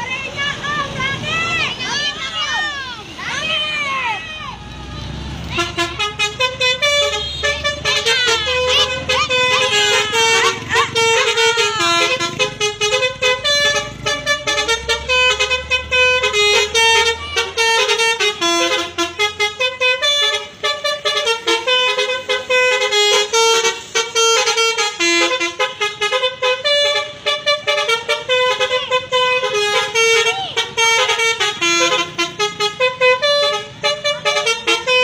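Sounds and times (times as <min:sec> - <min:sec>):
musical bus horn melody: 0:04.6 - 0:35.0.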